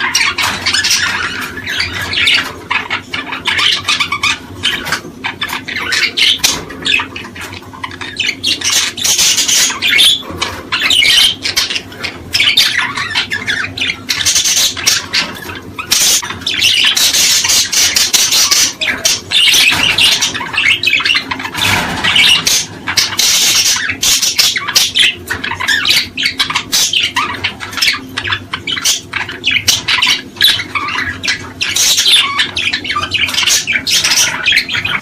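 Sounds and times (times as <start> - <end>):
small birds chirping chorus: 0.0 - 35.0.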